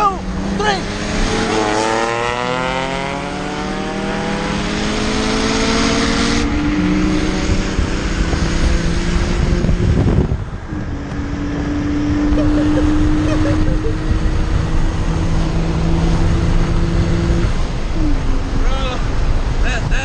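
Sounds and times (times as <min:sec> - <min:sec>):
car engine accelerating: 0:00.2 - 0:19.7.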